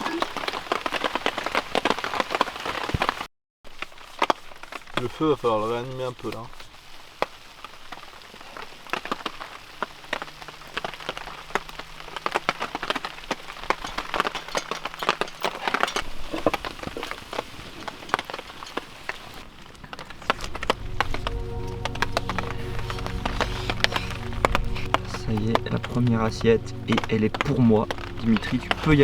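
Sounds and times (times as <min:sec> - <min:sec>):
rain on a tarp: 0:00.0 - 0:29.0.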